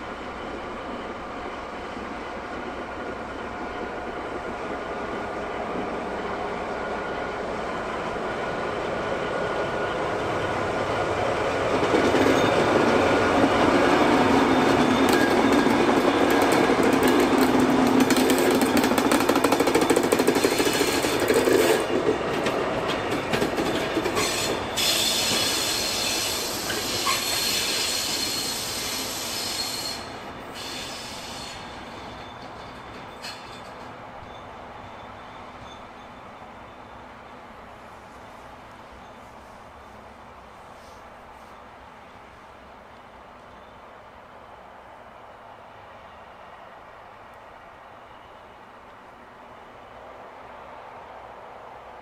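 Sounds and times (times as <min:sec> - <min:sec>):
wheels squealing on rails: 0:00.0 - 0:51.9
diesel locomotive engine passing: 0:00.0 - 0:52.0.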